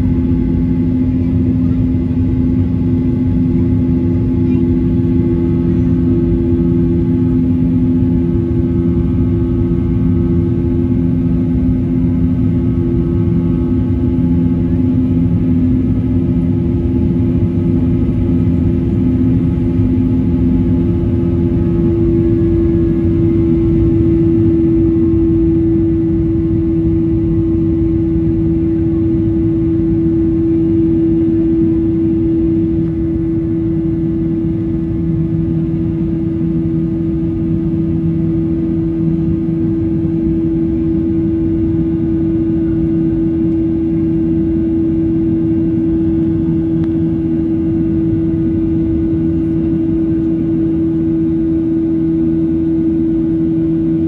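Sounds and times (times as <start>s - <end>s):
jet engines droning in cabin: 0.0s - 54.0s.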